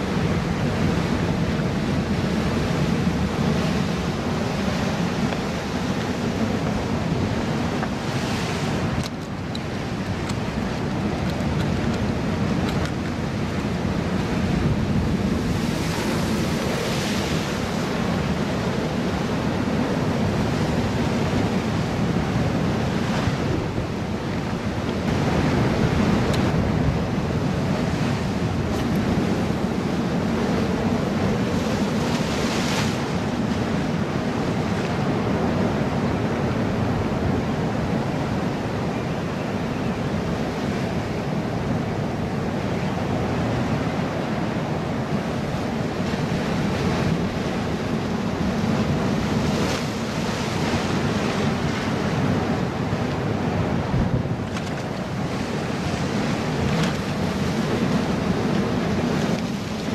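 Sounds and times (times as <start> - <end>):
ocean surf breaking on rocks: 0.0 - 59.9
wind buffeting microphone: 0.0 - 59.9.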